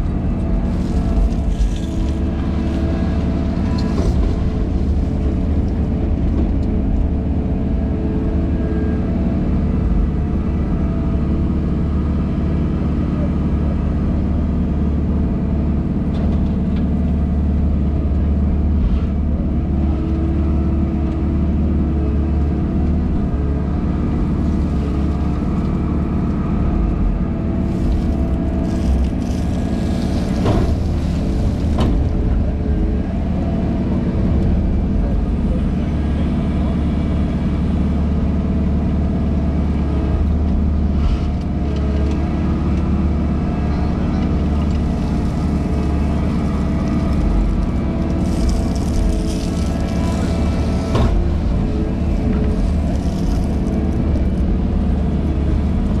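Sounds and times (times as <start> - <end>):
hydraulics working: 0.0 - 12.0, 22.0 - 39.0, 39.8 - 56.0
excavator engine running: 0.0 - 56.0.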